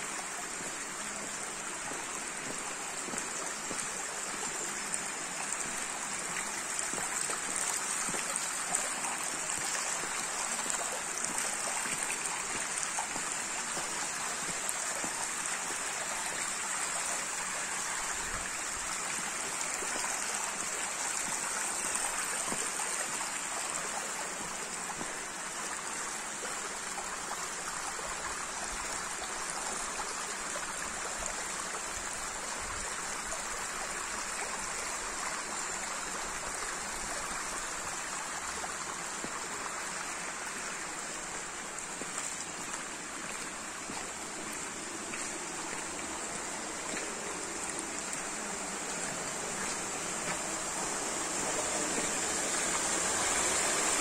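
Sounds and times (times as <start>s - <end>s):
rain falling: 0.0s - 54.0s
water flowing in stone gutter: 0.0s - 54.0s.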